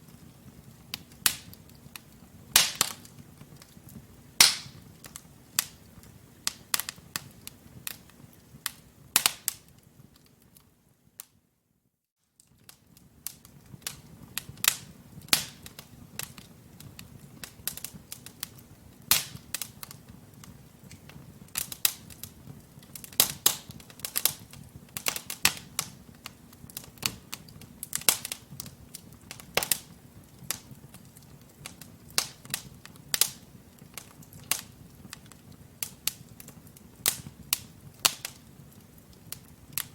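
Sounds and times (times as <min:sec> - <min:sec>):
logs crackling in fireplace: 0:00.0 - 0:11.4, 0:12.3 - 0:39.9.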